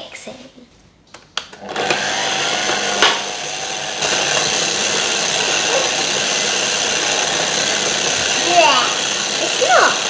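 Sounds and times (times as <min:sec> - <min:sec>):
electric food mixer running: 0:01.6 - 0:10.0.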